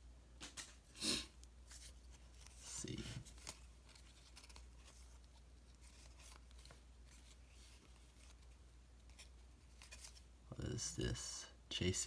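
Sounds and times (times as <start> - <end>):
cards rustling and clicking: 0.4 - 10.3.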